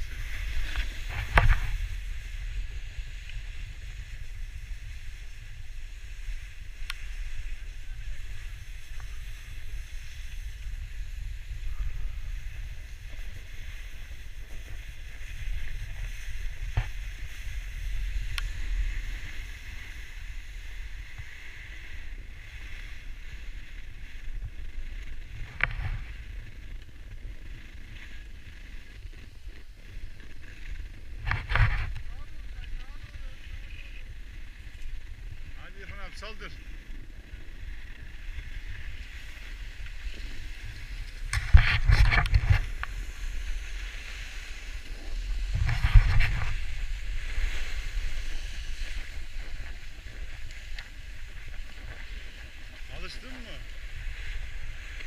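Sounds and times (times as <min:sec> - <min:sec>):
skis scraping on snow: 0:00.0 - 0:55.0
wind rumble on microphone: 0:00.0 - 0:55.0.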